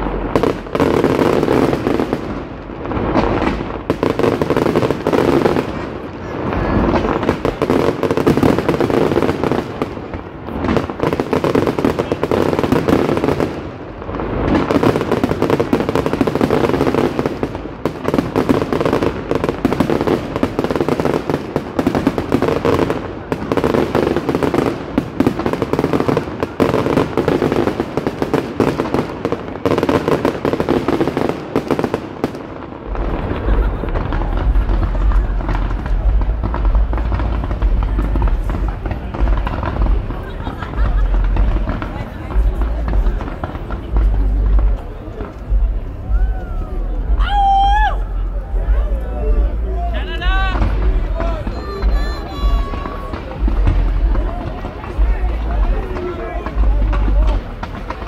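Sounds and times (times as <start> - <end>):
fireworks bangs and crackle: 0.0 - 58.0.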